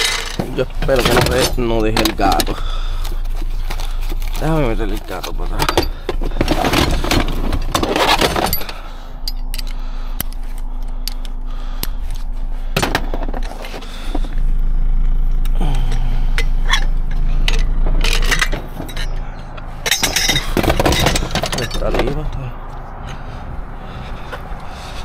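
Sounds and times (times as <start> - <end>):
metal tools clinking and scraping: 0.0 - 14.3, 15.8 - 22.5
steady low hum: 0.0 - 25.0.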